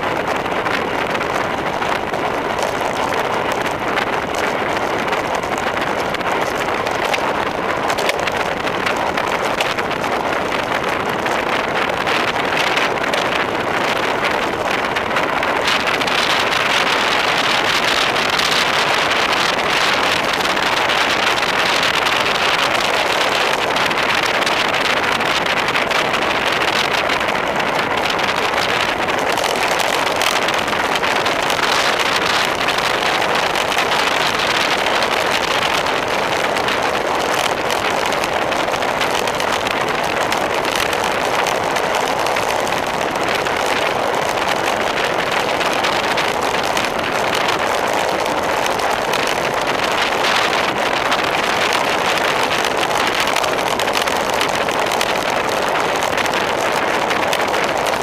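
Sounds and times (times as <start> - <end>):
wind rushing on microphone: 0.0 - 58.0.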